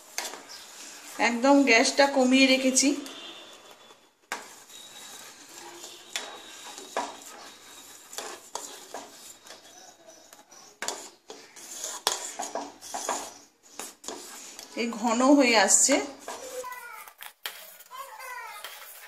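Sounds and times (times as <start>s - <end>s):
ladle scraping a metal pot: 0.0s - 19.0s.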